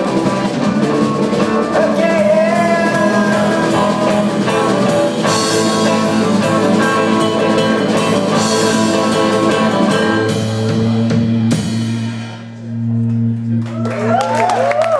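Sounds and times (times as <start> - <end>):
rock band playing: 0.0 - 14.9.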